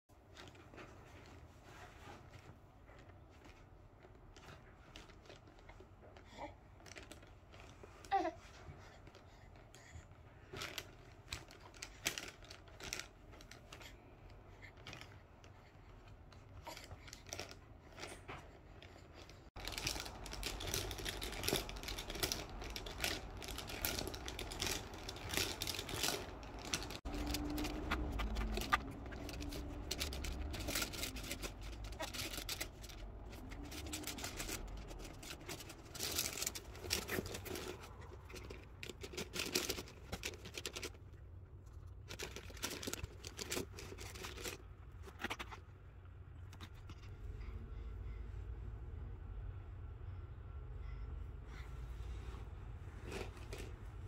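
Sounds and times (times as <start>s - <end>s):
handling clicks and rustling: 0.1s - 47.2s, 52.7s - 54.0s.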